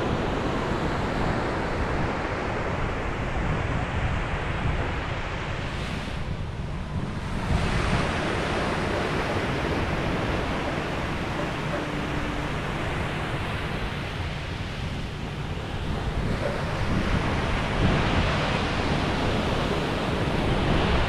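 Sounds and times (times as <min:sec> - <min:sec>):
ocean waves on a beach: 0:00.0 - 0:21.0.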